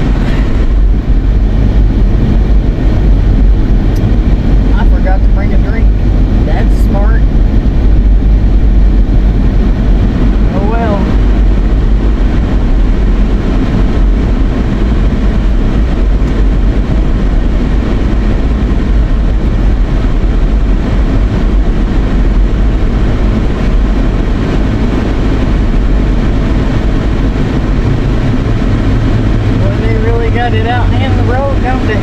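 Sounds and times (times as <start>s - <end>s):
air-conditioning fan blowing: 0.0s - 32.0s
tyre and engine rumble: 0.0s - 32.0s.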